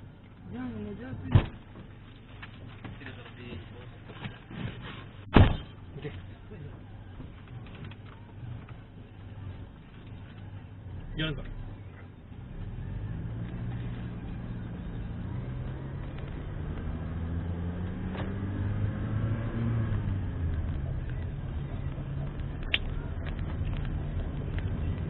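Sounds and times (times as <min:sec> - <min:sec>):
car engine humming: 0:00.0 - 0:25.0.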